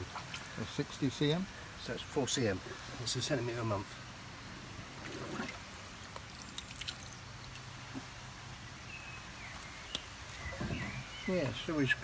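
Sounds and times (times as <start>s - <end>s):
faint trickling water: 0.0s - 12.0s.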